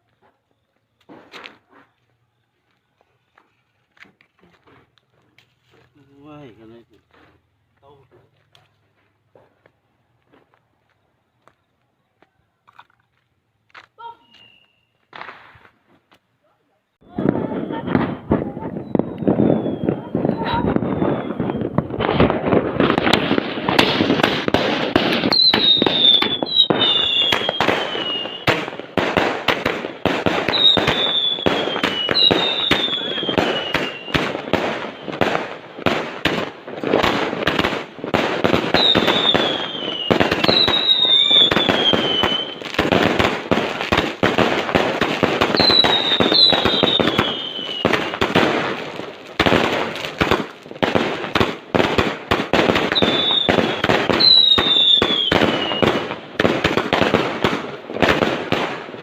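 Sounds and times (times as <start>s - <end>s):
whistling firework shells: 0.0s - 4.9s, 14.0s - 16.2s, 17.0s - 59.0s
fireworks bangs and crackles: 0.0s - 16.2s, 17.0s - 59.0s.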